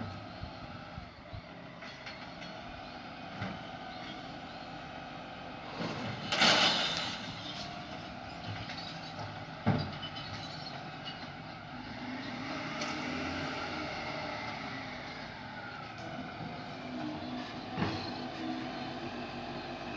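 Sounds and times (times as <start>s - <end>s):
garbage truck running: 0.0s - 19.9s.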